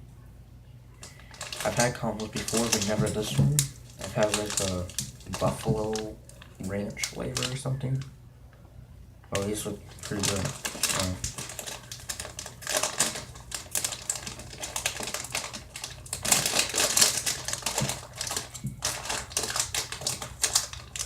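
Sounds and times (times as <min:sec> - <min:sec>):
plastic snack bag crinkling: 0:01.0 - 0:08.1, 0:09.3 - 0:21.0.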